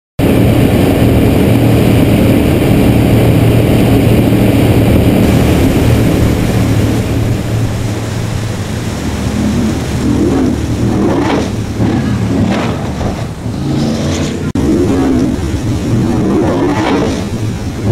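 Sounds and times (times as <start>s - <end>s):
racing boat engines droning: 0.2s - 17.9s.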